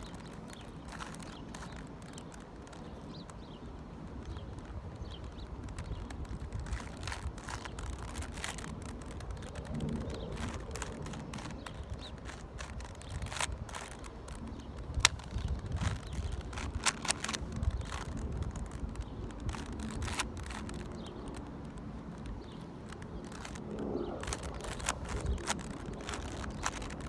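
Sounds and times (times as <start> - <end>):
puzzle cube clicking: 0.0 - 27.0.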